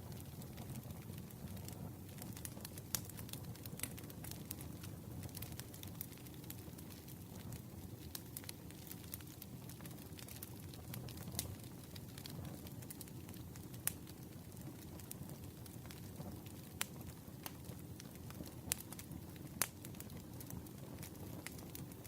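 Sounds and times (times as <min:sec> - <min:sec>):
burning wood rumble: 0:00.0 - 0:22.0
campfire crackling: 0:00.0 - 0:22.0.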